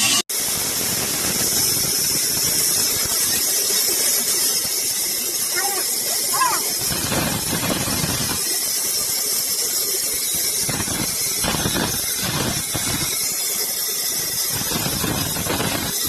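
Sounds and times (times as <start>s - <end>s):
sawmill machinery hissing: 0.0s - 16.0s.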